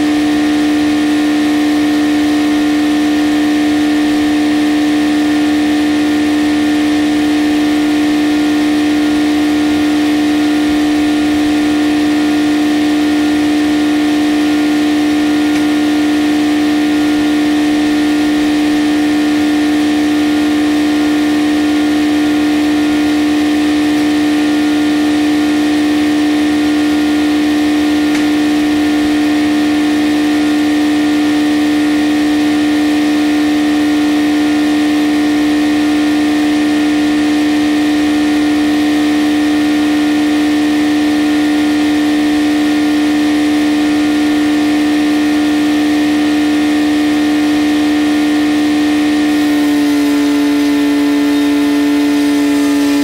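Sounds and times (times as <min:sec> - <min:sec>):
sawmill blade drone: 0:00.0 - 0:53.0.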